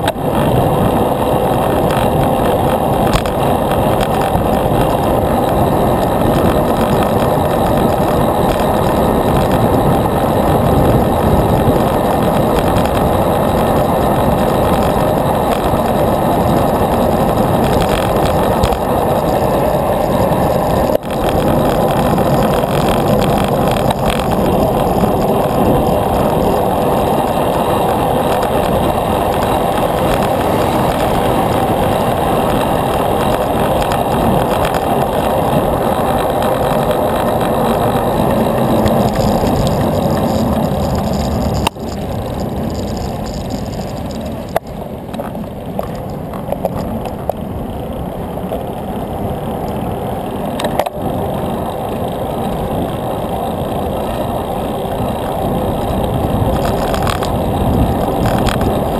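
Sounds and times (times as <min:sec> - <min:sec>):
wind and tyre rolling noise: 0:00.0 - 0:58.9.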